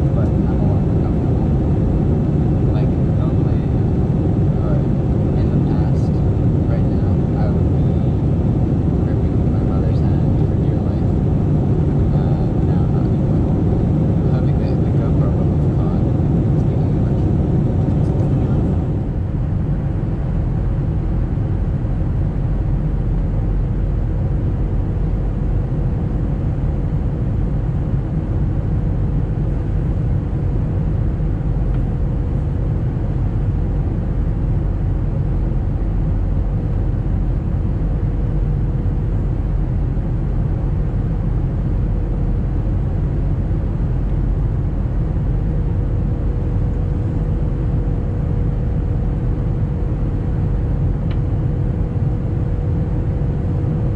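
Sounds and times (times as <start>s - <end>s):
airliner cabin engine rumble: 0.0s - 53.9s
faint steady hum: 0.0s - 53.9s.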